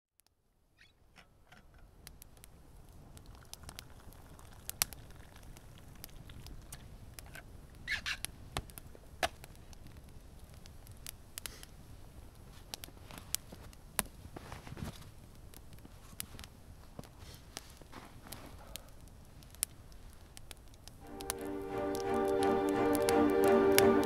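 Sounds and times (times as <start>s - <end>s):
wood fire crackling: 1.4s - 24.0s.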